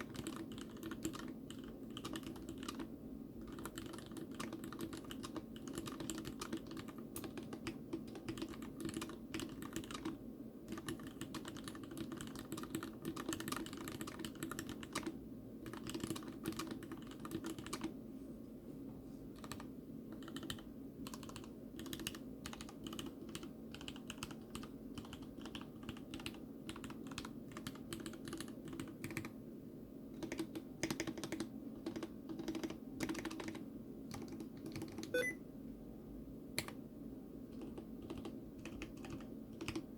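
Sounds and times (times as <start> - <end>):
mechanical keyboard typing: 0.0 - 17.9, 19.4 - 29.3, 30.2 - 35.4, 37.5 - 39.9.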